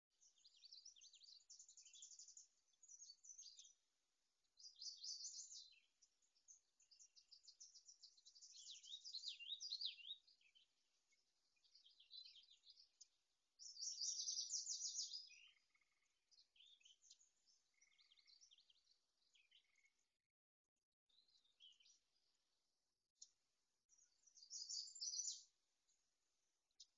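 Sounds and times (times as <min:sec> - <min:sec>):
songbirds singing: 0:00.0 - 0:26.9.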